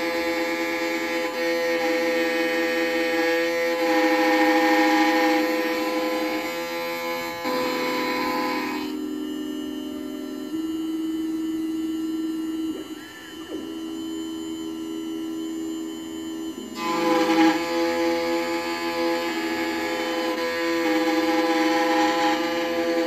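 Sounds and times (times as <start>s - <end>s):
key-cutting machine whine: 0.0s - 23.0s.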